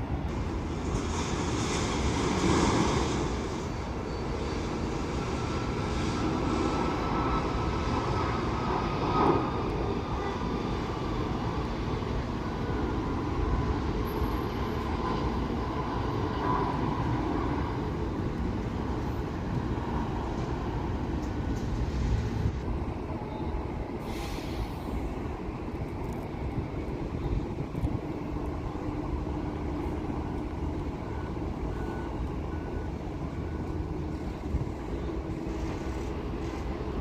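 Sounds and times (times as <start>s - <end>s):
faint engine whine: 0.0s - 37.0s
jet engines rumbling: 0.0s - 37.0s.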